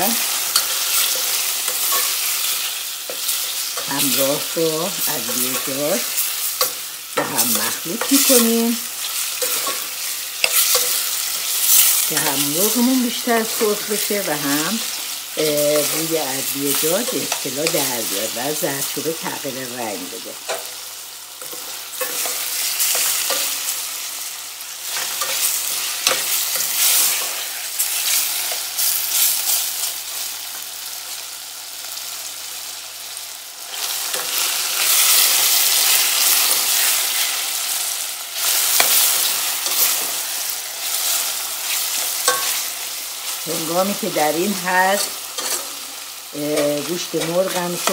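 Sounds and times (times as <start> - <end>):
chicken sizzling in pot: 0.0 - 47.9.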